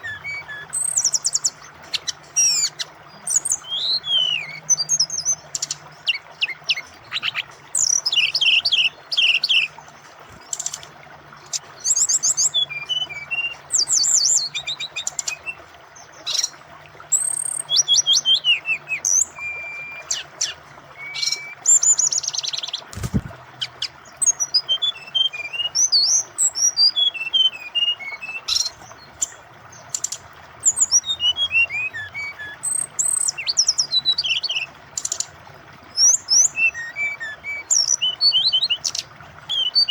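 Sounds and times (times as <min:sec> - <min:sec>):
bird singing: 0:00.0 - 0:39.9
flowing water: 0:00.0 - 0:39.9.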